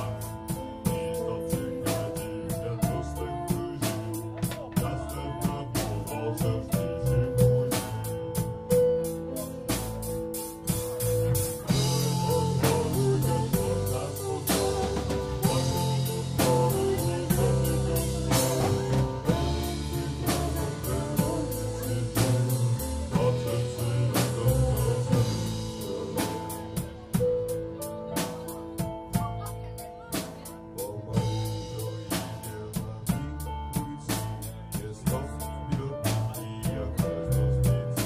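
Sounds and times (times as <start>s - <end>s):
sustained pitched notes: 0.0s - 32.7s
drum kit steady beat: 0.0s - 38.0s.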